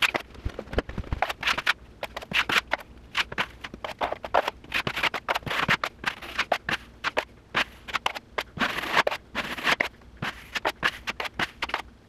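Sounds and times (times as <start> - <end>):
taping knife scraping compound: 0.0 - 0.3, 1.2 - 11.9.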